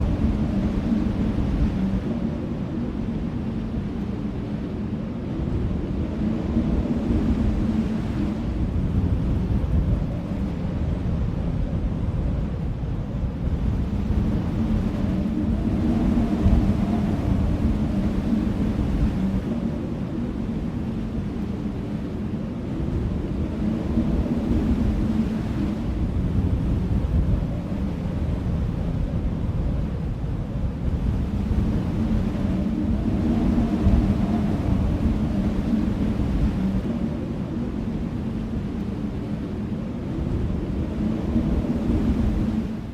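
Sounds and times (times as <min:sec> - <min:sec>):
low desert rumble: 0:00.0 - 0:42.9
wind buffeting microphone: 0:00.0 - 0:42.9.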